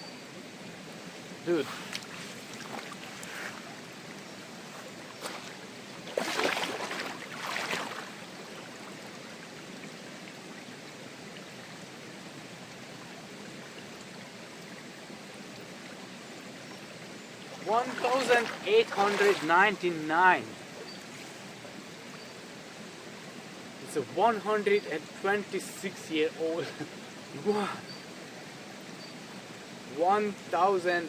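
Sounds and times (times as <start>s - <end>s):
stream flowing: 0.0s - 31.0s.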